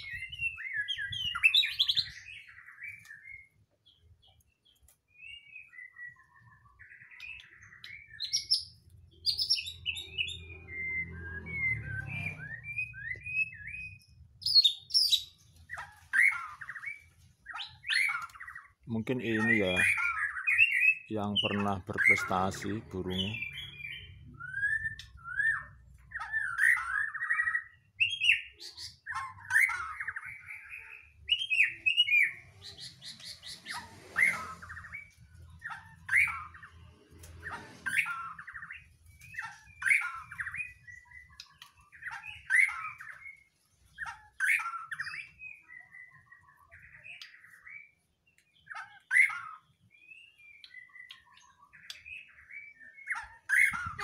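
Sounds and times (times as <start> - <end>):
bird singing whistled phrases: 0.0 - 3.5, 5.1 - 15.3, 16.1 - 36.7, 37.8 - 54.0.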